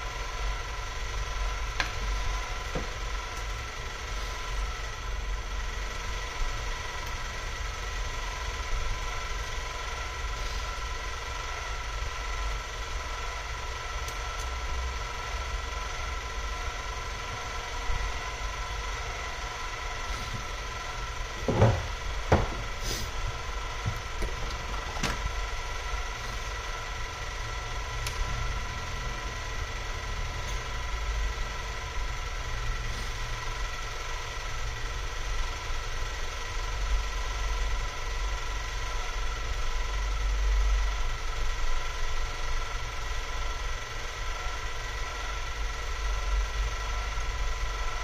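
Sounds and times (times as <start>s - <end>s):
machine hum with high whine: 0.0s - 48.0s.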